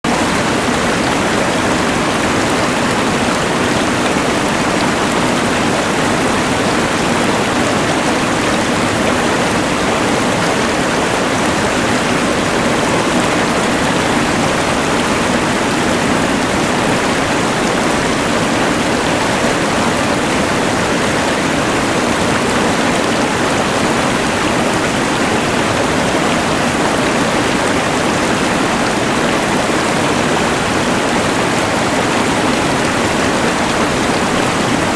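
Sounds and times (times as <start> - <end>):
rushing river: 0.0 - 34.9.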